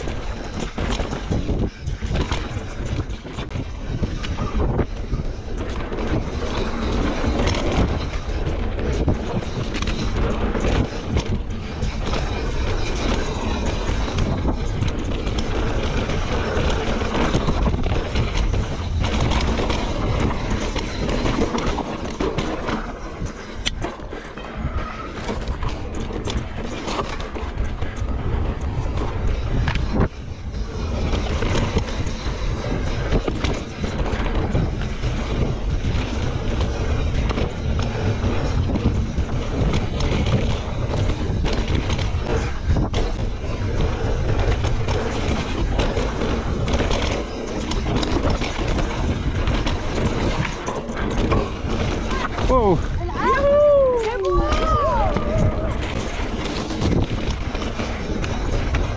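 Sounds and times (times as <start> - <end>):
bike chain and frame clattering: 0.0 - 58.9
tyres rumbling on dirt: 0.0 - 58.9
wind on microphone: 0.0 - 58.9.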